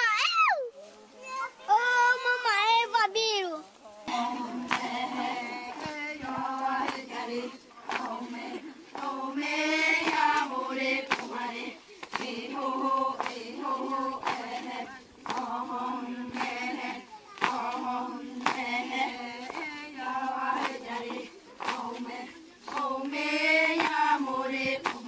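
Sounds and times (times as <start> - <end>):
women singing a chant: 1.8 - 2.5, 3.6 - 25.0.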